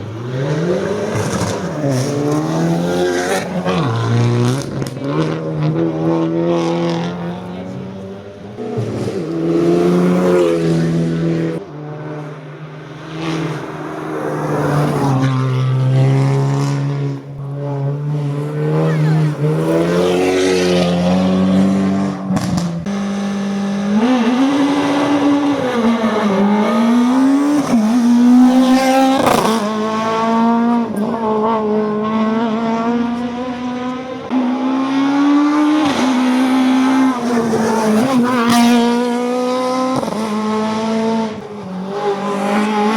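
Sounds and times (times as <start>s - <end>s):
race car engine accelerating: 0.0s - 42.9s.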